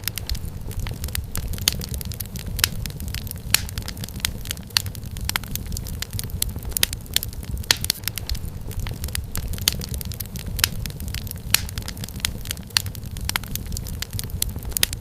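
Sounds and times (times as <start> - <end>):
low rumble of burning fire: 0.0 - 15.0
wood fire crackling: 0.0 - 15.0.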